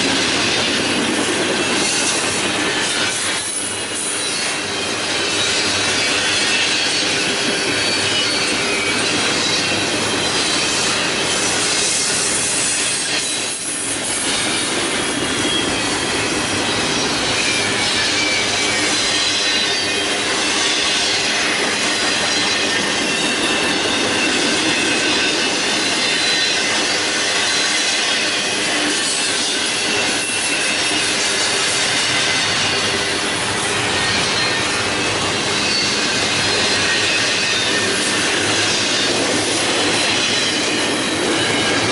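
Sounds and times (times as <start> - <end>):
high wheel squeal: 0.0 - 41.9
steel wheels rushing on rail: 0.0 - 41.9.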